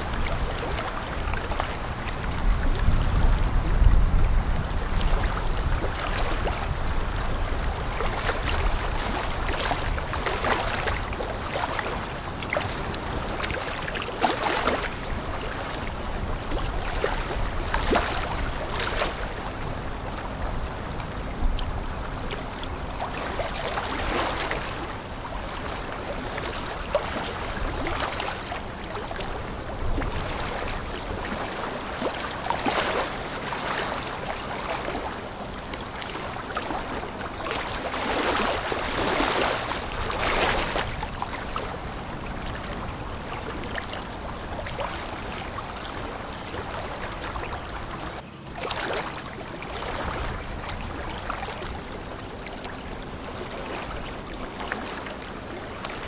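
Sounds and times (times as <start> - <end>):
water rushing and splashing: 0.0 - 56.0.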